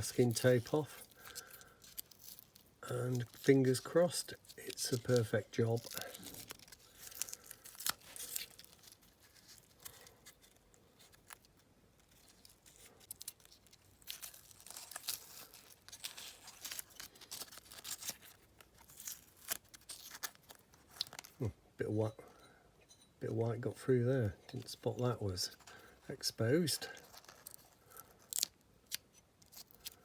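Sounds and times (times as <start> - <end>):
masking tape being peeled: 0.0 - 21.4, 26.6 - 30.0.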